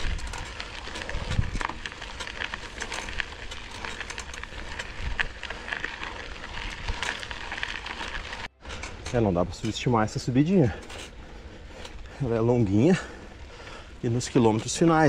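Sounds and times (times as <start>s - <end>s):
bike clicks and rattles: 0.0s - 15.0s
bike tyres on gravel: 0.0s - 15.0s.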